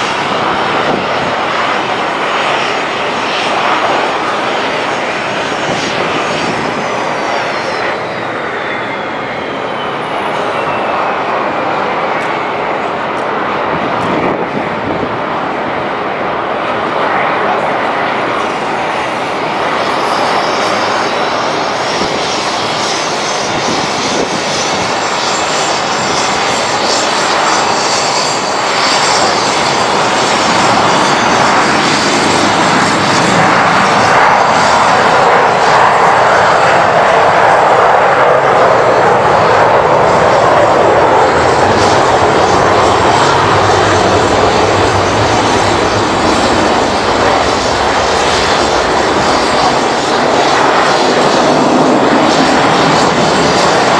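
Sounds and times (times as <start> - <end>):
jet engines roaring on take-off: 0.0 - 53.9.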